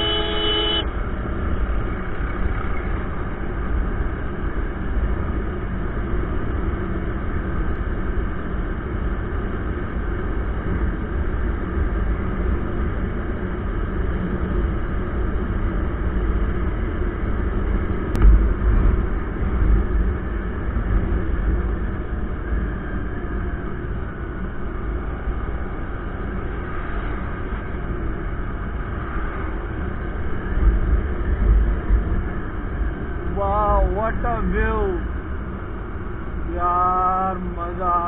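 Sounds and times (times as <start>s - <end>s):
low rumbling gusts: 0.8s - 38.0s.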